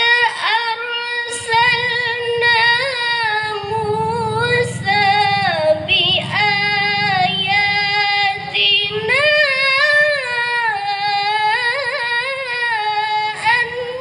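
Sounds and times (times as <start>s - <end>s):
woman chanting melodically: 0.0s - 14.0s.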